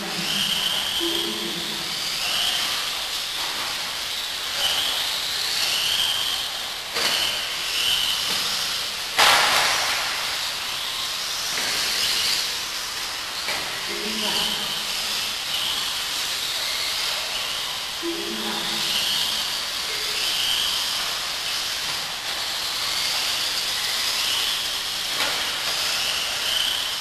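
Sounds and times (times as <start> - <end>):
radio-controlled car motors whining: 0.0 - 9.5, 10.6 - 27.0.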